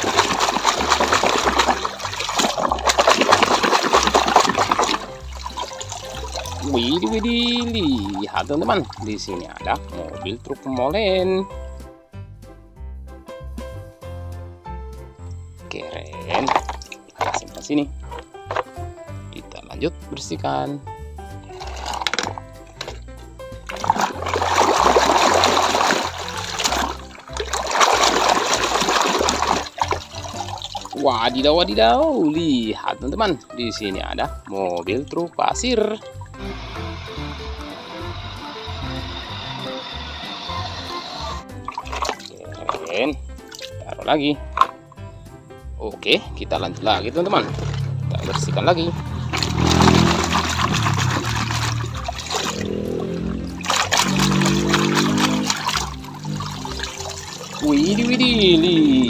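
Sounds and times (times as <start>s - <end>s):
muddy water splashing: 0.0s - 10.8s, 15.8s - 18.8s, 21.4s - 44.9s, 46.6s - 59.0s.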